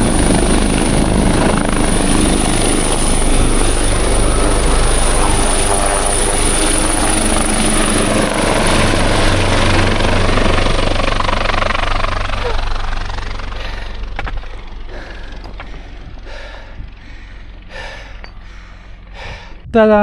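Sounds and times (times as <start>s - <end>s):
helicopter rotor drone: 0.0s - 20.0s.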